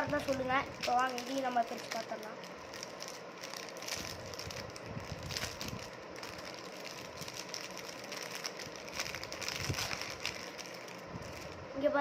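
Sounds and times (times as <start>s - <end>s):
packaging rustling and crinkling: 0.0s - 11.6s.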